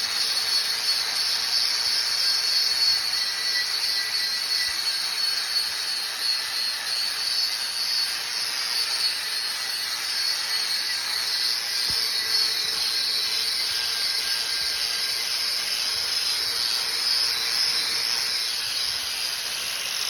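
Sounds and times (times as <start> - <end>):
power tool grinding steel: 0.0 - 20.0.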